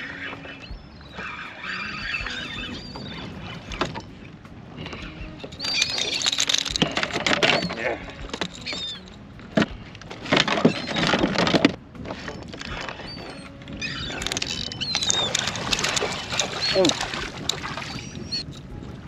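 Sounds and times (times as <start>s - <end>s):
seabirds shrill cries: 0.0s - 18.7s
water splashing: 0.0s - 19.0s.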